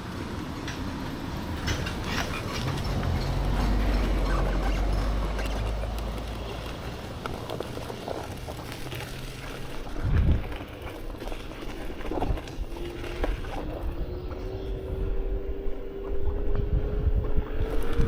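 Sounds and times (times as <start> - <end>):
wheel rolling over path: 0.0 - 18.0
wind rumble: 0.0 - 18.0.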